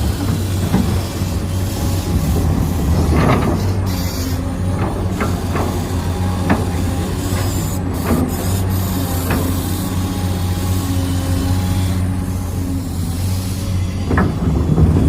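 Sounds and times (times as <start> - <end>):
electric gear motors whirring: 0.0 - 14.8.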